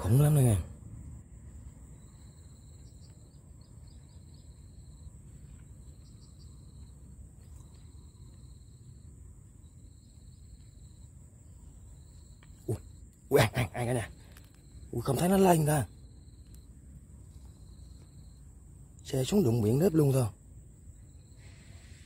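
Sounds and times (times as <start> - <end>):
insects high pulsed trill: 0.0 - 22.0.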